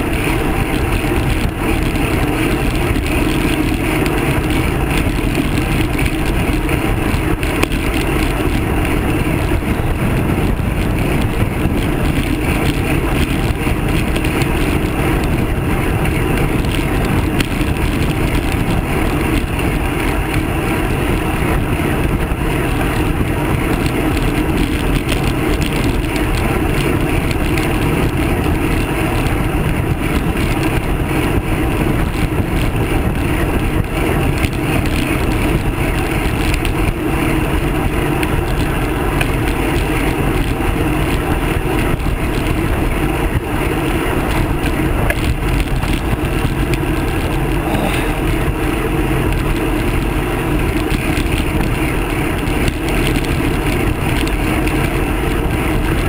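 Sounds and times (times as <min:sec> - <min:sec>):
bicycle road rumble: 0:00.0 - 0:56.0
wind rushing: 0:00.0 - 0:56.0.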